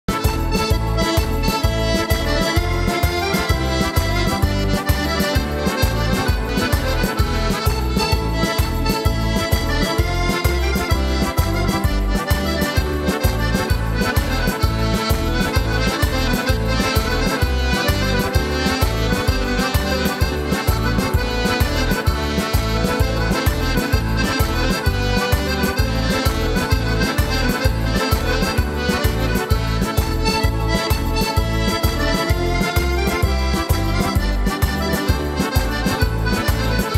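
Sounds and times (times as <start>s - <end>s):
pulsing bass beat: 0.1s - 36.8s
button accordions playing: 0.1s - 36.9s.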